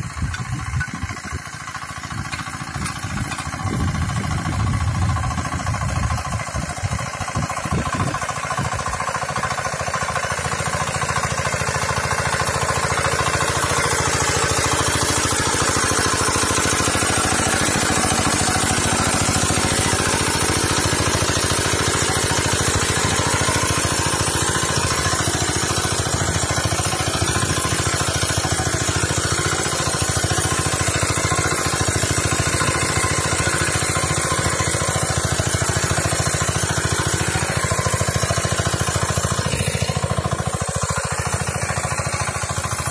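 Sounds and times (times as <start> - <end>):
rotovator engine running: 0.0 - 42.9
tines churning soil: 0.0 - 42.9.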